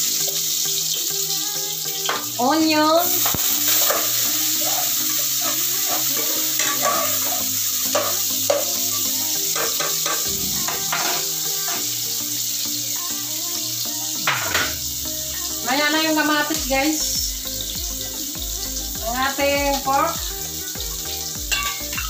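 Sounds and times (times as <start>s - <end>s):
background music: 0.0s - 22.0s
onion sizzling in hot oil: 0.0s - 22.0s.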